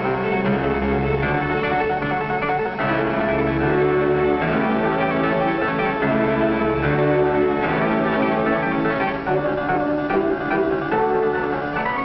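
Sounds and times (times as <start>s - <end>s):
instrumental soundtrack music: 0.0s - 12.0s.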